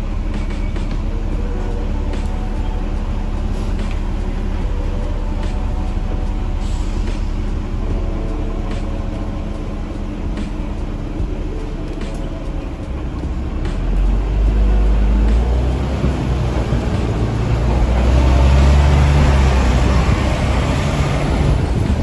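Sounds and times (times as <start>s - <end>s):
bus diesel engine rumbling: 0.0s - 22.0s
street traffic: 0.0s - 22.0s.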